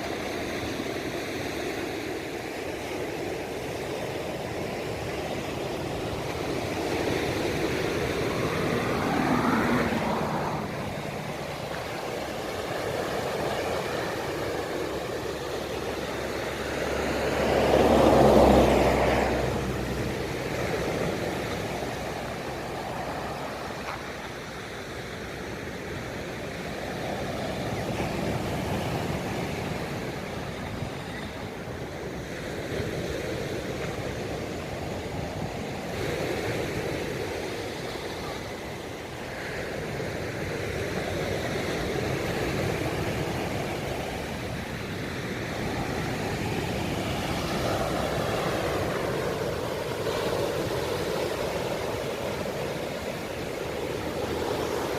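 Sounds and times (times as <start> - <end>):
waves breaking on a beach: 0.0 - 54.9.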